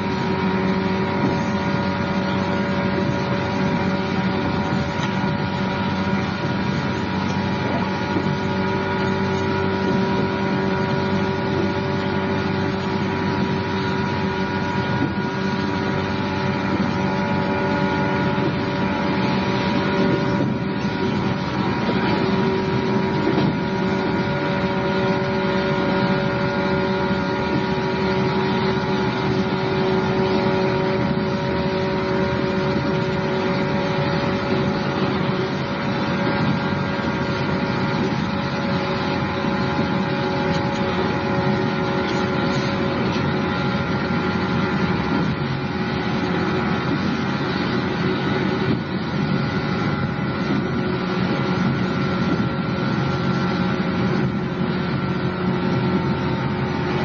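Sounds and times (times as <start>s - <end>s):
constant electric hum: 0.0s - 57.0s.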